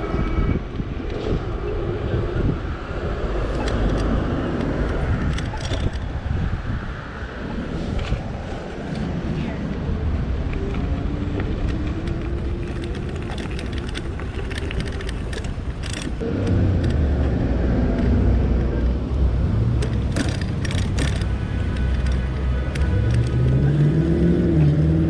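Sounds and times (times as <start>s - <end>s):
road traffic rumble: 0.0s - 25.0s
vehicles passing: 0.0s - 25.0s.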